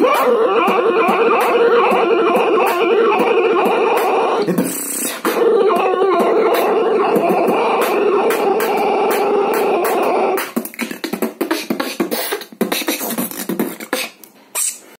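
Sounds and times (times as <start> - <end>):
beatboxing: 0.0 - 15.0.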